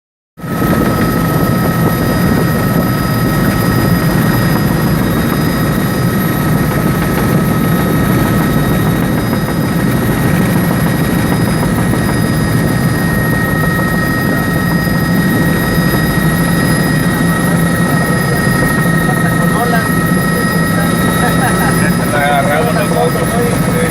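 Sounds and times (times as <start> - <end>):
helicopter engine and rotor: 0.4 - 23.9
high whining tones: 0.4 - 23.9.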